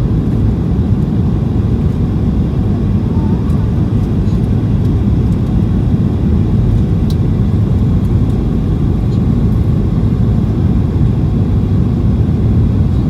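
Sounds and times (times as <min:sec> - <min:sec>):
airplane cabin engine noise: 0:00.0 - 0:13.0.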